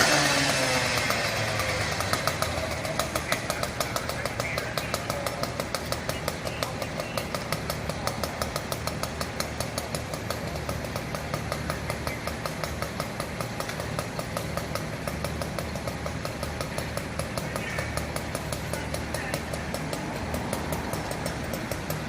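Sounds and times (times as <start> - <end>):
diesel engine idling: 0.0 - 22.0
rapid ticking: 0.0 - 22.0.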